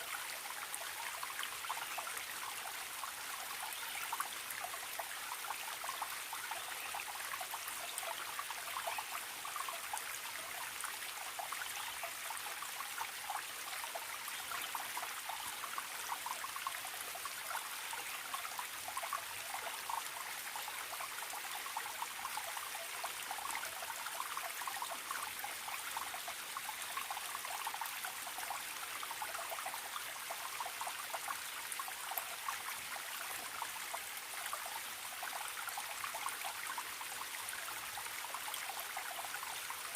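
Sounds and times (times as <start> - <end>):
stream trickling and gurgling: 0.0 - 39.9.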